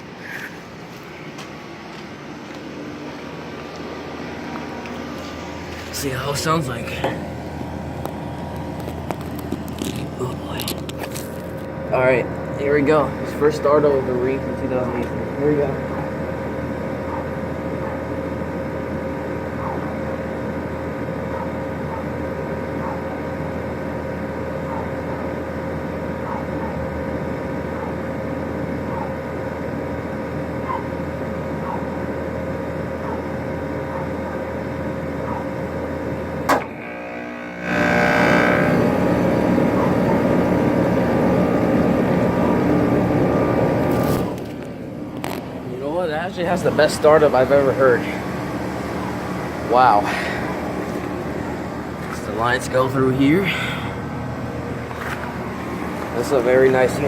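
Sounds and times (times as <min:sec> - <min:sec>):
air conditioner condenser running: 0:00.0 - 0:57.0
air conditioner humming: 0:00.0 - 0:57.0.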